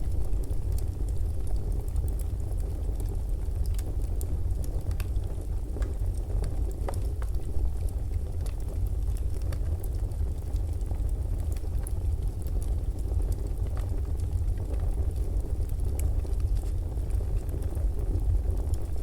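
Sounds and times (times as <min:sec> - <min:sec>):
low rumble of fire: 0:00.0 - 0:19.0
wood crackling and popping: 0:00.0 - 0:19.0.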